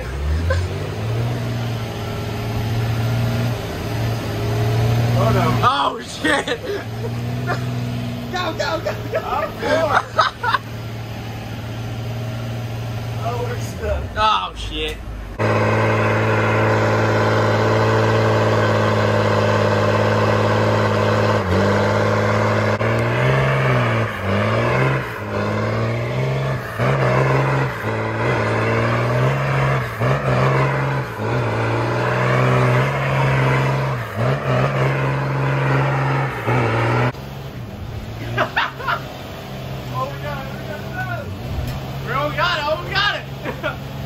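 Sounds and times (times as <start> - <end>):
loud diesel engine revving: 0.0 - 44.0.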